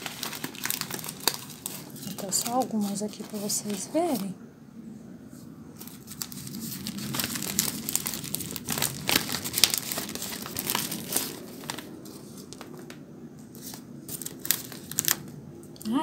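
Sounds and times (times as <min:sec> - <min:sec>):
dry leaves crinkling: 0:00.0 - 0:04.4, 0:05.8 - 0:15.4.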